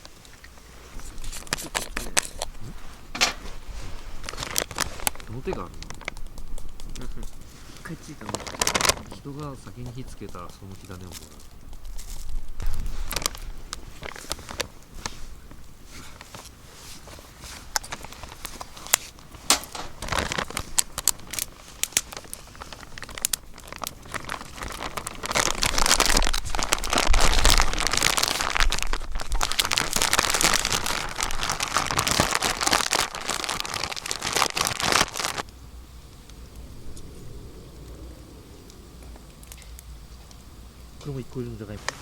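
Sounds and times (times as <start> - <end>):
dry tinder crackling: 0.0 - 42.0.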